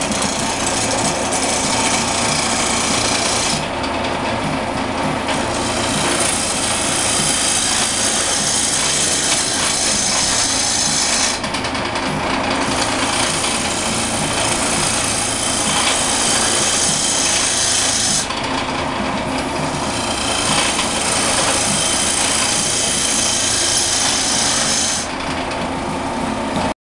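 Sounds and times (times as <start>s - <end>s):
turning tool scraping wood: 0.0s - 25.7s
wood lathe motor hum: 0.0s - 26.7s.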